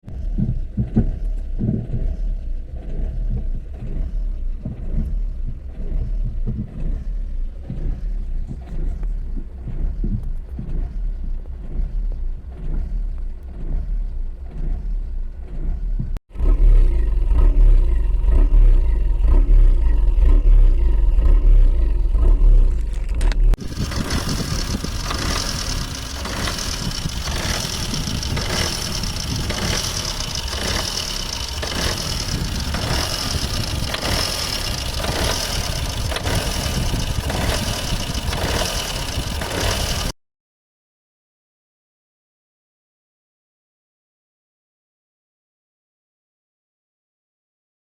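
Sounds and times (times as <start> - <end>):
car engine idling roughly: 0.0 - 40.2.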